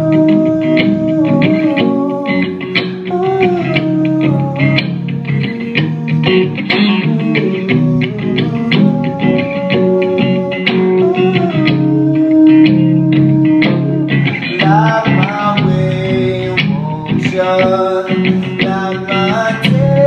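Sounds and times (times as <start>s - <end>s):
guitars: 0.0s - 20.0s
live band playing: 0.0s - 20.0s.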